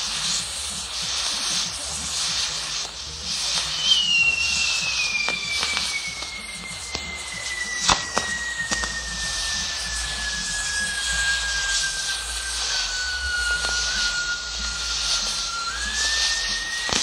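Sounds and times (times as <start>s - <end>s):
firework cracks: 0.0s - 17.0s
firework whistle sliding down: 0.0s - 17.0s
fireworks hissing: 0.0s - 17.0s.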